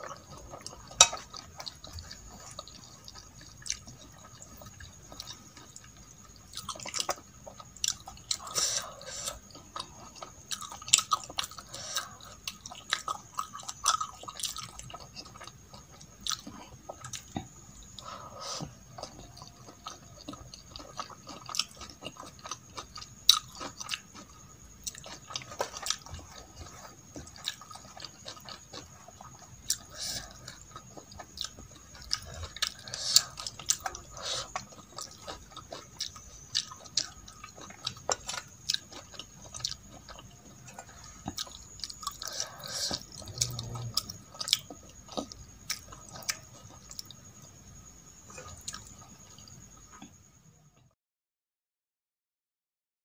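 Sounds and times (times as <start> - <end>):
wet chewing: 0.0 - 50.2.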